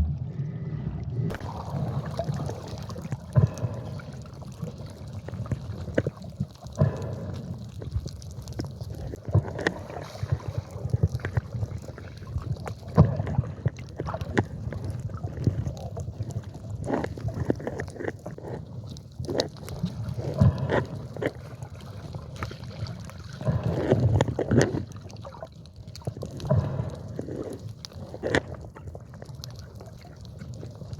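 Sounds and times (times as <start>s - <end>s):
sea water sloshing and gurgling: 0.0s - 30.9s.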